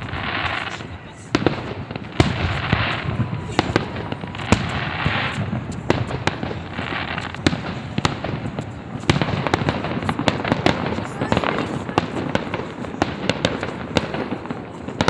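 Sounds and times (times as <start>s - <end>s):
crackling hiss of fireworks: 0.0s - 15.0s
firework bangs: 0.0s - 15.0s.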